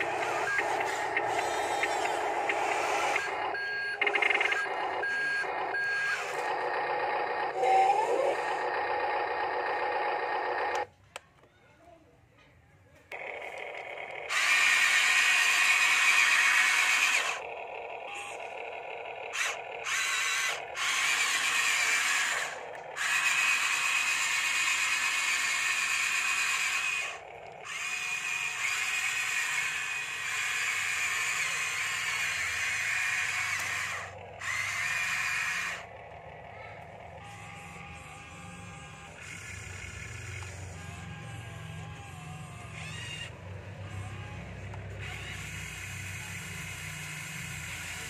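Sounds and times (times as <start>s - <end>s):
electric motors whining: 0.0s - 10.9s, 13.1s - 48.0s.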